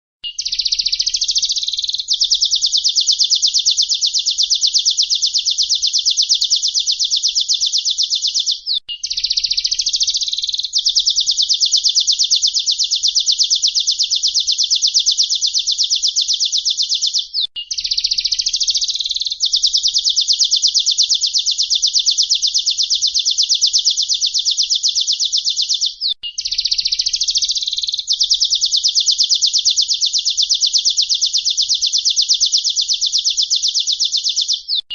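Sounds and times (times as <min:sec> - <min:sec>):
high-pitched bird trill: 0:00.3 - 0:34.9.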